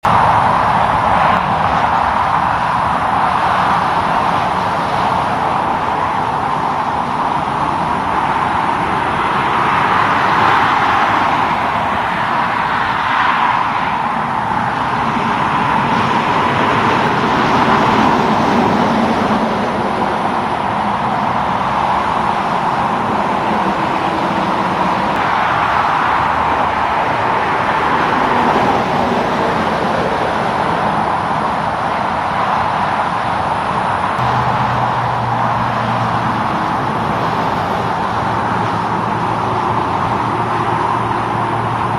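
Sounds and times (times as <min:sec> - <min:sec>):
vehicles passing on road: 0:00.0 - 0:41.9.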